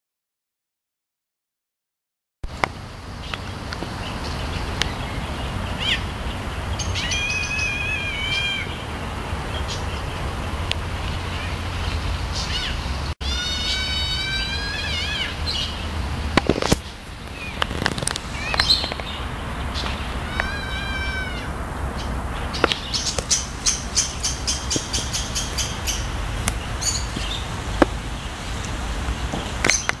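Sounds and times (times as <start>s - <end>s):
drawn-out bird call: 3.2s - 30.0s.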